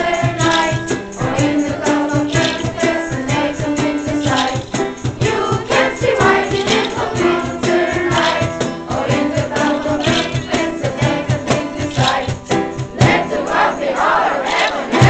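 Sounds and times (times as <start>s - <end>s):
shaken tambourine-like percussion: 0.0s - 15.0s
steady beat: 0.0s - 15.0s
young voices singing together: 0.0s - 15.0s.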